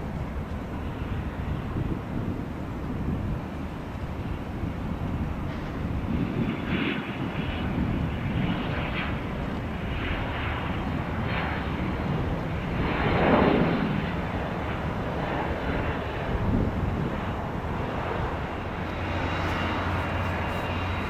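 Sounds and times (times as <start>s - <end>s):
jet airliner engines passing: 0.0s - 21.0s.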